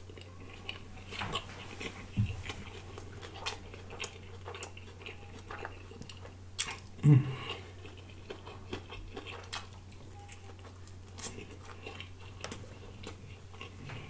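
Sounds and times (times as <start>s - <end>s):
chewing with lip smacks: 0.0s - 14.0s
faint low hum: 0.0s - 14.0s.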